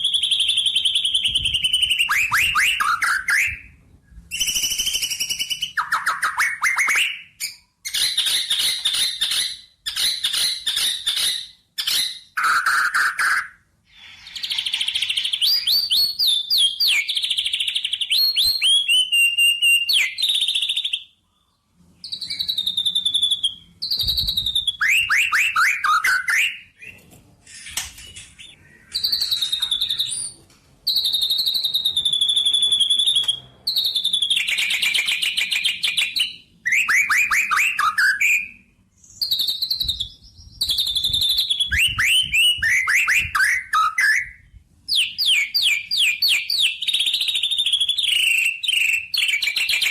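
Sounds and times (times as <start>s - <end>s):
songbird chirping and trilling: 0.0s - 49.9s.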